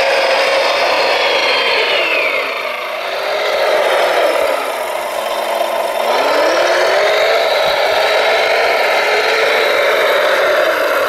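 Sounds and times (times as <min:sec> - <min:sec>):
model loader motors whining: 0:00.0 - 0:11.0.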